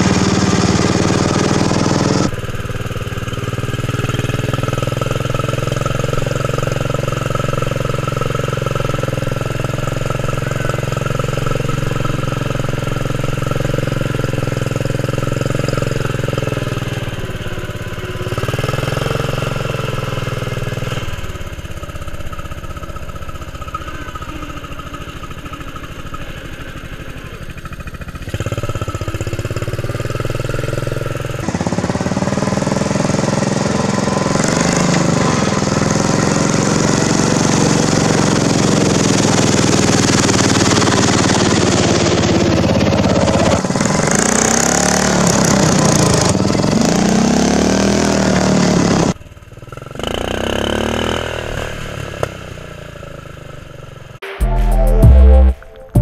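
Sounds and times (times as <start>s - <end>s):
lawn tractor engine running: 0.0s - 49.8s.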